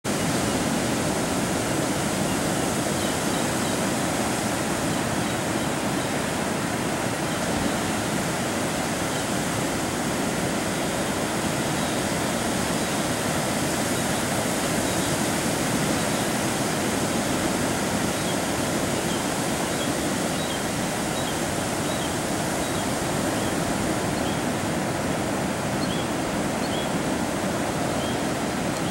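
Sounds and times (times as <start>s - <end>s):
ocean waves breaking on beach: 0.0s - 28.9s.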